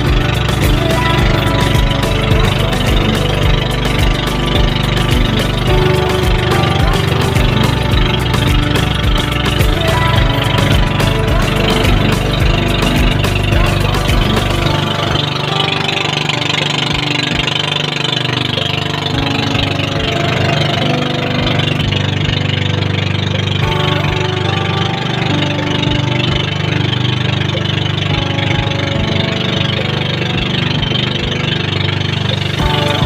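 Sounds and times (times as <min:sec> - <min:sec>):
boat motor droning: 0:00.0 - 0:33.0.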